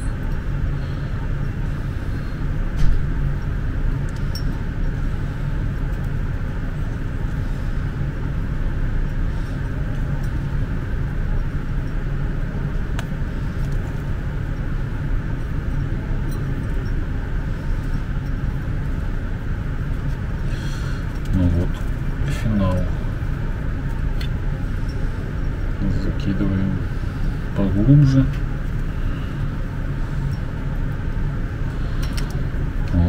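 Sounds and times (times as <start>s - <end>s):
low background rumble: 0.0s - 33.0s.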